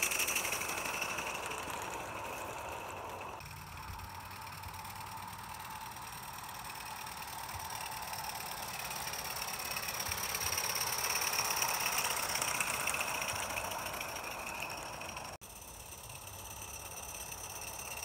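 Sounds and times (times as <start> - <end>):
model steam locomotive chatter: 0.0 - 18.0.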